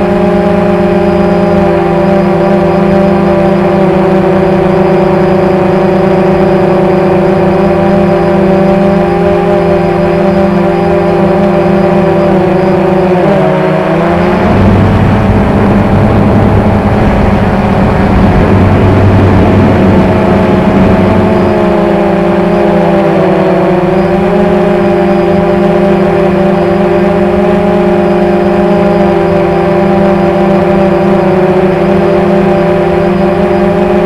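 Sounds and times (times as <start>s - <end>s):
quadcopter hovering hum: 0.0s - 34.0s.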